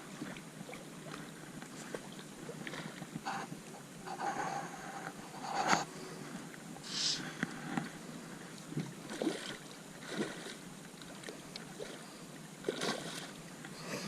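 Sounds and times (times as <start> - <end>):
water slapping on a boat: 0.0 - 4.2, 4.8 - 14.0
water splashes: 0.0 - 14.0.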